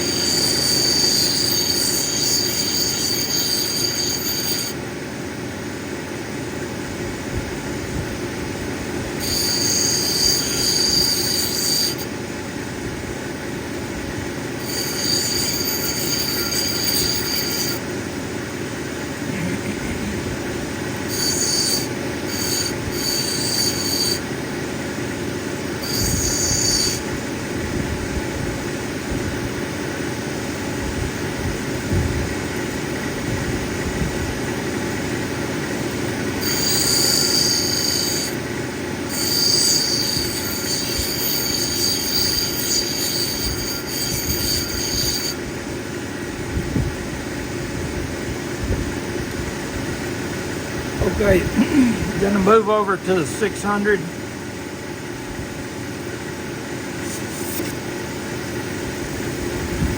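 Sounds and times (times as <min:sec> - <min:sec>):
high-pitched whine of stone grinding: 0:00.0 - 0:05.1, 0:08.2 - 0:46.1, 0:48.3 - 0:59.9
grinding machine motor running: 0:00.0 - 0:59.9.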